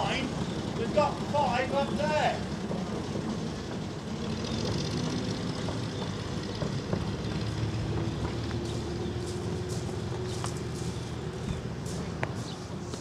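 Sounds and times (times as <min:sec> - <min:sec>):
train rumbling over rails: 0:00.0 - 0:13.0.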